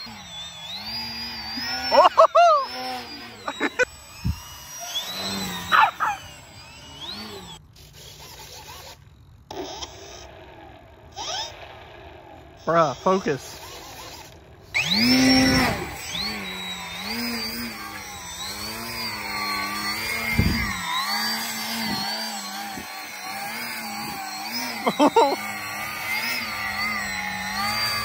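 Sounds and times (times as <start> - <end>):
electric model plane motor whining: 0.0 - 28.0.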